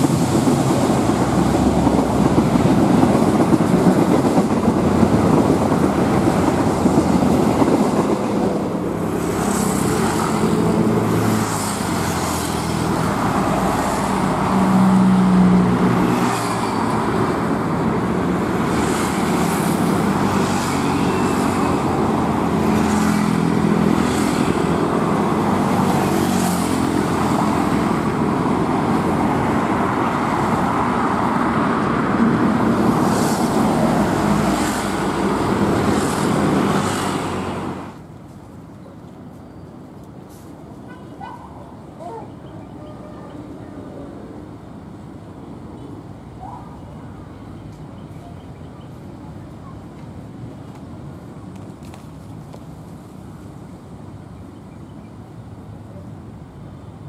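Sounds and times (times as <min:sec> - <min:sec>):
passenger train on rails: 0:00.0 - 0:57.0
road traffic rumble: 0:00.0 - 0:57.0.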